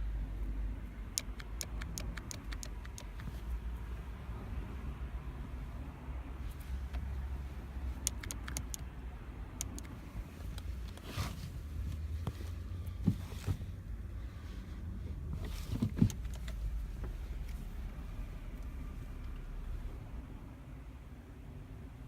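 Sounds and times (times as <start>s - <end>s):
car rumbling: 0.0s - 22.0s.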